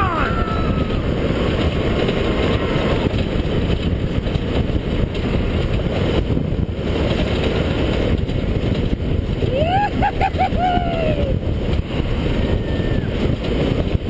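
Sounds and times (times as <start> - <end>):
wind on microphone: 0.0 - 14.0
hard wheels rolling on asphalt: 0.5 - 10.6, 11.2 - 14.0.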